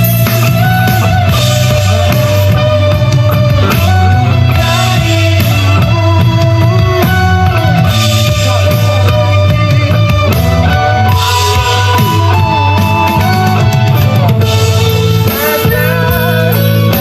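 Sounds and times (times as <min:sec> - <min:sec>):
electric guitar lead: 0:00.0 - 0:17.0
rock drums and bass: 0:00.0 - 0:17.0.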